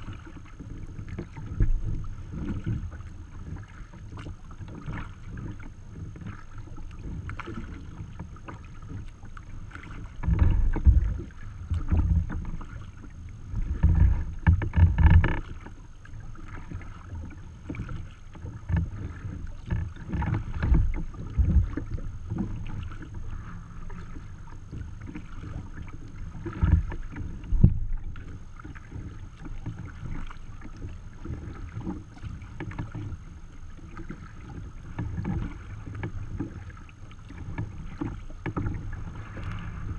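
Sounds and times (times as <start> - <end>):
low rumbling water surges: 0.0 - 39.9
water lapping against kayak hull: 0.0 - 39.9.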